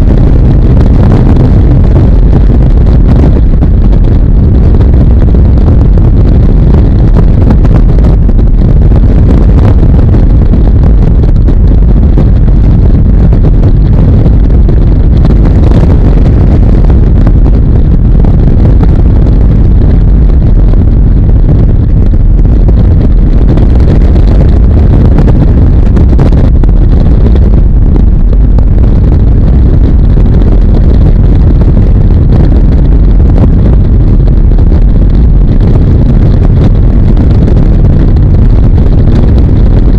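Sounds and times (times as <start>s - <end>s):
motorcycle engine rumble: 0.0s - 39.6s
wind rushing over microphone: 0.0s - 39.9s.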